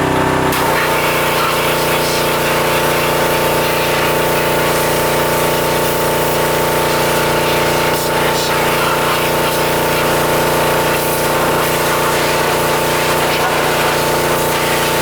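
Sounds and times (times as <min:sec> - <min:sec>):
pressure washer engine running: 0:00.0 - 0:15.0
water spray hiss: 0:00.5 - 0:15.0.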